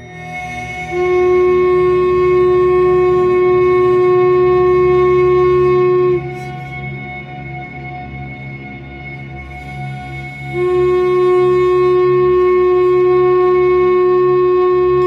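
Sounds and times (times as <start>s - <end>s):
long held wind note: 0.0s - 15.0s
sustained drone: 0.0s - 15.0s.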